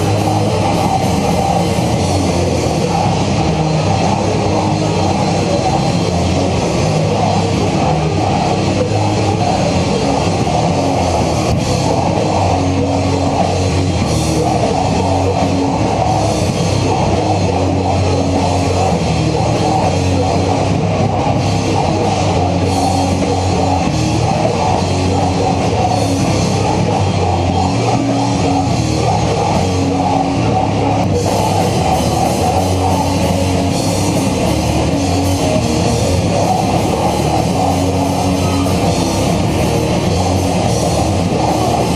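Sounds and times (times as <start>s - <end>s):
metal band playing: 0.0s - 41.9s.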